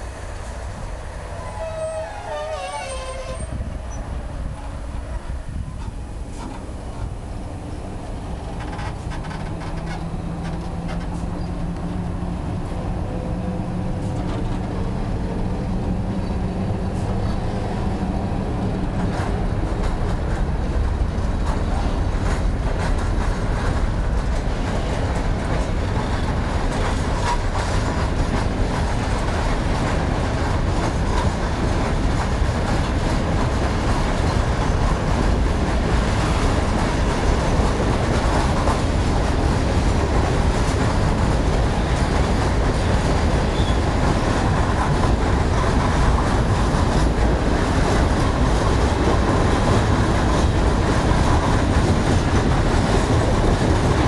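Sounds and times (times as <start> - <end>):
electric locomotive humming: 0.0 - 54.0
train wheels clattering over rail joints: 5.6 - 54.0.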